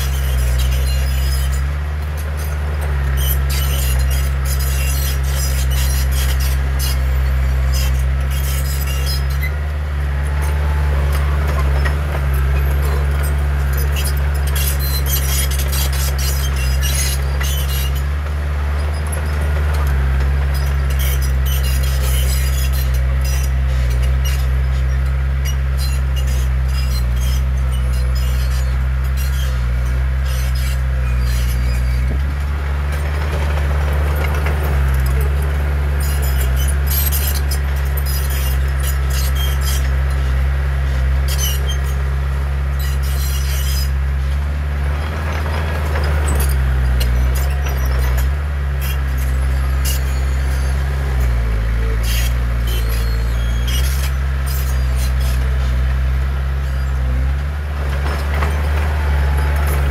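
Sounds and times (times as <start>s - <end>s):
bulldozer diesel engine running: 0.0s - 59.9s
crawler tracks clanking and squeaking: 0.0s - 59.9s.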